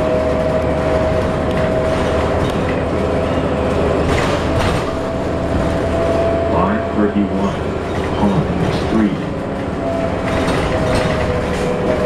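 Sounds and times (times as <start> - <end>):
bus engine drone with whine: 0.0 - 12.0
road noise: 0.0 - 12.0.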